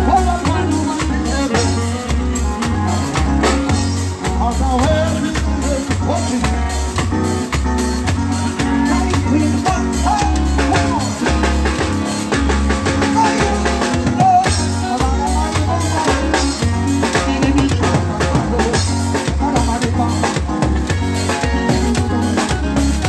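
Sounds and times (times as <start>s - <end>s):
band over loud sound system: 0.0s - 23.0s
drums: 0.0s - 23.0s
heavy pulsing bass: 0.0s - 23.0s.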